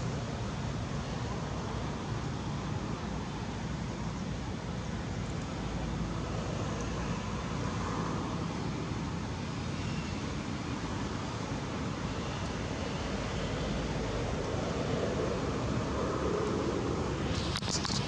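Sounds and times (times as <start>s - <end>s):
outdoor background rush: 0.0s - 18.0s.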